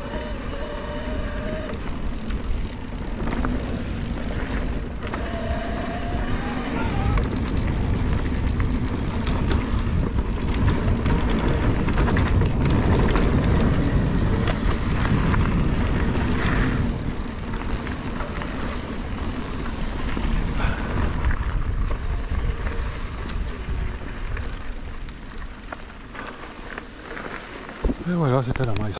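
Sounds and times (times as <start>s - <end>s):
wind on microphone: 0.0s - 25.2s
bike rattling over rough ground: 0.0s - 28.9s
bike tyre noise: 0.0s - 28.9s.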